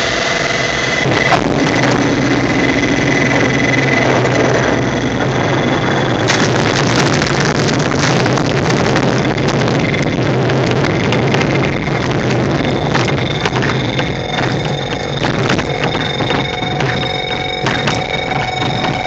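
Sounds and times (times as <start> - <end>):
glider rolling on runway: 0.0 - 19.0
knocks and rattles: 1.0 - 19.0.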